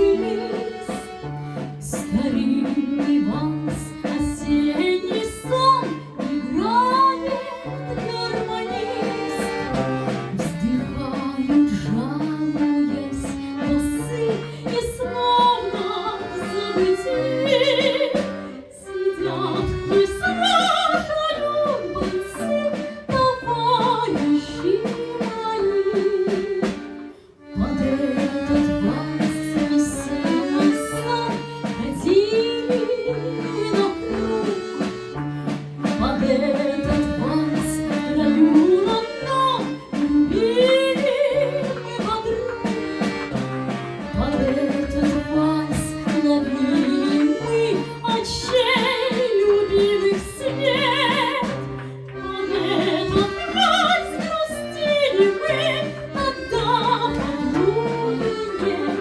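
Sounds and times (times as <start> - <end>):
accordion: 0.0 - 59.0
woman singing with vibrato: 0.0 - 59.0.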